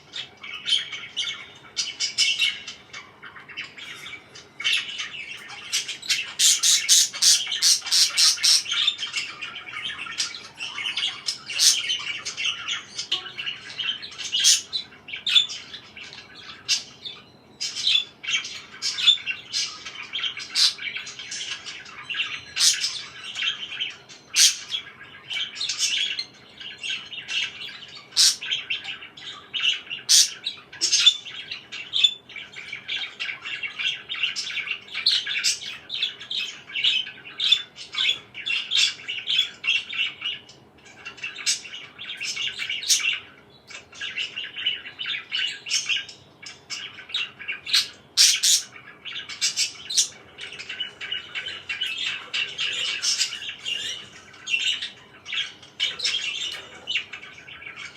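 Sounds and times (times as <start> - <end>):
parakeet squawks: 0.0 - 57.9
parakeets chirping and chattering: 0.0 - 57.9.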